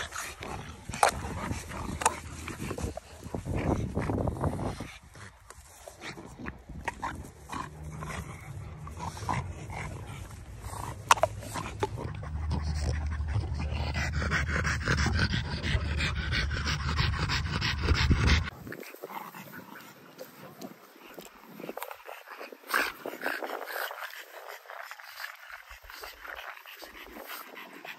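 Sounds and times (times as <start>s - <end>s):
dogs panting: 0.0s - 27.9s.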